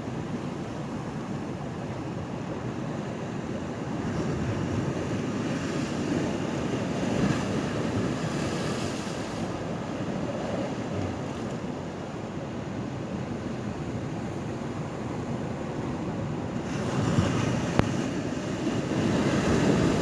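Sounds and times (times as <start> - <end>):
sea waves surging and washing: 0.0 - 20.0.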